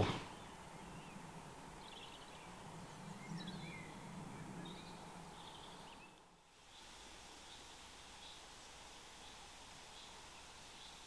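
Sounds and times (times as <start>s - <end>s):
background hiss: 0.0s - 11.0s
faint birds chirping: 0.0s - 11.0s.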